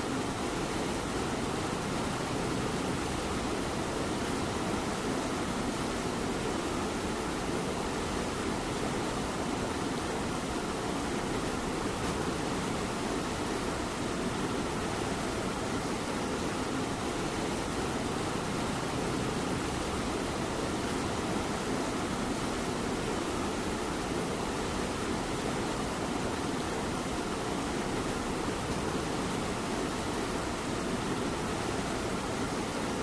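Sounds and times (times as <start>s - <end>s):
light rain hiss: 0.0s - 33.0s.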